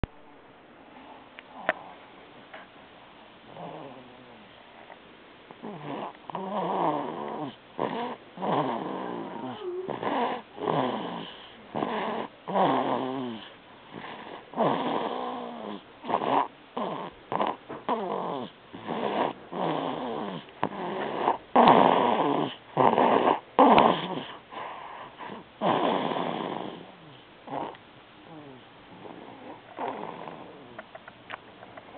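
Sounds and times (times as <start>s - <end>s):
baby snoring: 3.5s - 4.5s, 5.6s - 30.8s.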